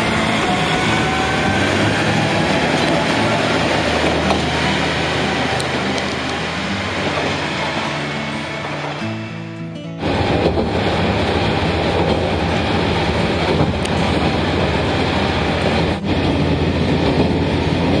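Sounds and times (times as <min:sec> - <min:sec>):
train wheels rolling on rails: 0:00.0 - 0:09.3, 0:10.0 - 0:18.0
background music: 0:00.0 - 0:18.0
diesel engine drone: 0:00.0 - 0:18.0.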